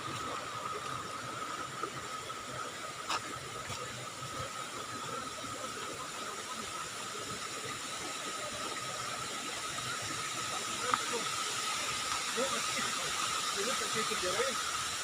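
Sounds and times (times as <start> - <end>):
stream water flowing: 0.0 - 15.0.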